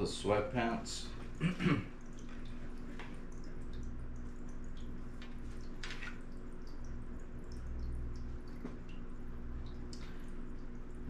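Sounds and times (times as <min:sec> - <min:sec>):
aquarium filter humming: 0:00.0 - 0:11.0
water trickling and dripping: 0:00.0 - 0:11.0.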